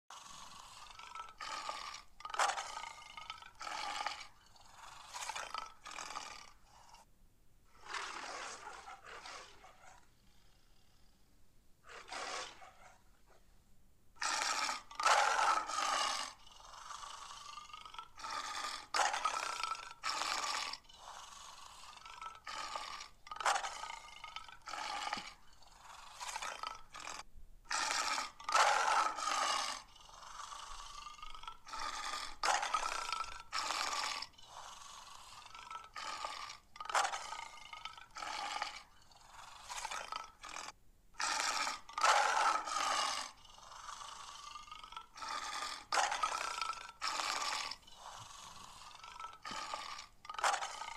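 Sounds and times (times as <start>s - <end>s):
big cat growling and snarling: 0.1s - 7.1s, 7.7s - 11.2s, 11.8s - 13.4s, 14.2s - 50.9s.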